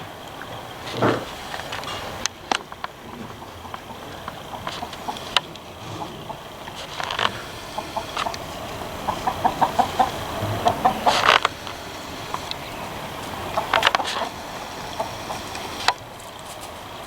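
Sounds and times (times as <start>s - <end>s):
fowl clucking: 0.0s - 17.0s
loud harsh fowl call: 0.0s - 17.0s.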